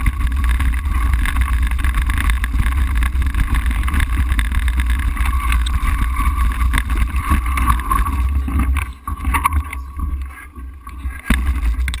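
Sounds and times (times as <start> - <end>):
bike knocks and gravel crunches: 0.0 - 12.0
wind rumble on microphone: 0.0 - 12.0.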